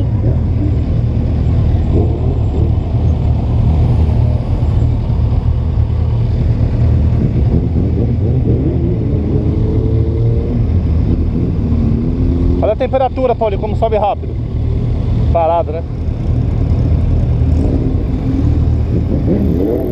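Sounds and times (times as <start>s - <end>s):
low rumble of traffic: 0.0s - 19.9s.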